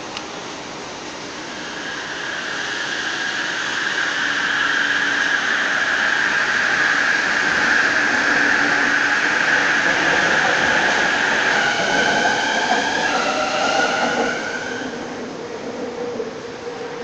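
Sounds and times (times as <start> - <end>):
metro train whining and rolling: 0.0 - 17.0.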